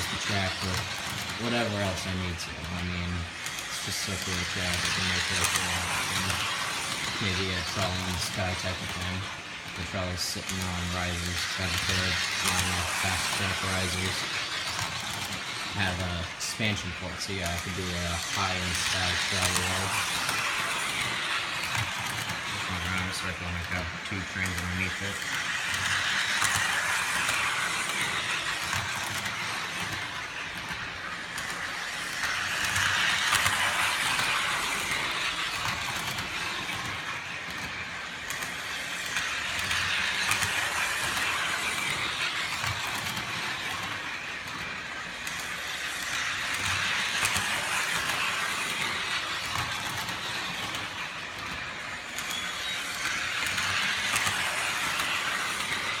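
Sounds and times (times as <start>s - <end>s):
toy trolley rattling on rails: 0.0s - 56.0s.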